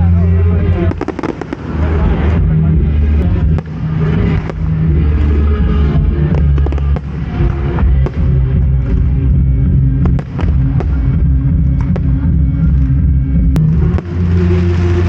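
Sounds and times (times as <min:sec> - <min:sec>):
heavy low rumble: 0:00.0 - 0:15.0
fireworks cracks and bangs: 0:00.8 - 0:09.2, 0:10.0 - 0:12.9, 0:13.6 - 0:15.0.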